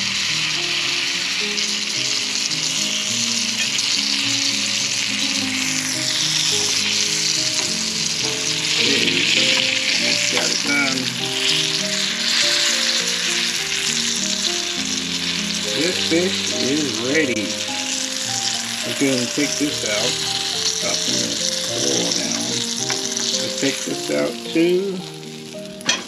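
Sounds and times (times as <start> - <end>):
fish fillets sizzling in oil: 0.0 - 26.0.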